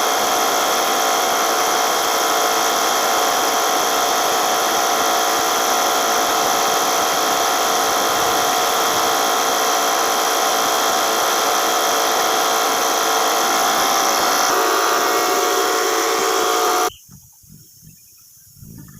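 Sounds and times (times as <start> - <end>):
paint sprayer whining: 0.0 - 16.9.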